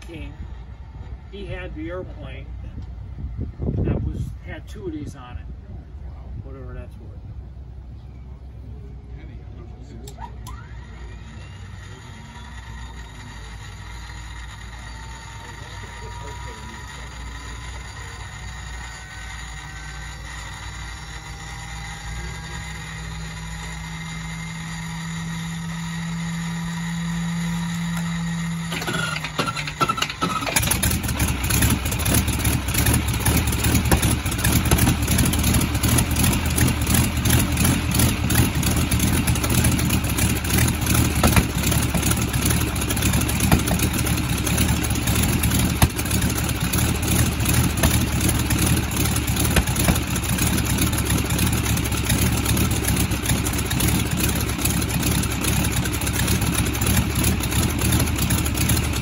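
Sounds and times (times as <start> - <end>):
radial aircraft engine idling: 0.0 - 59.0.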